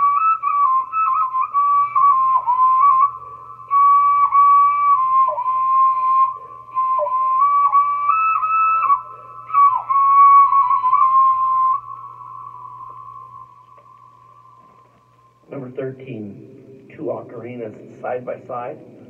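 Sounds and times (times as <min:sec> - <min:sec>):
clay ocarina high whistle: 0:00.0 - 0:15.4.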